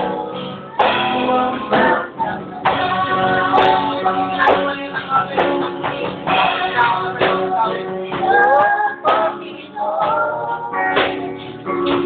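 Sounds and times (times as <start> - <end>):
electric guitar strummed: 0.0 - 12.0
man singing: 0.8 - 12.0.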